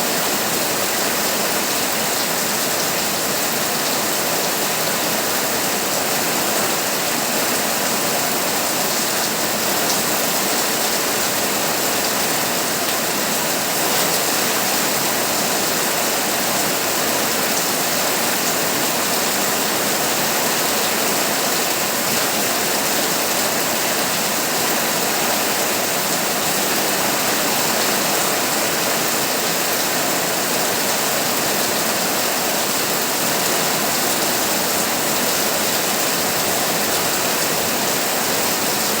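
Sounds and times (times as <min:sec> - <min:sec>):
heavy rain on a tin roof: 0:00.0 - 0:39.0.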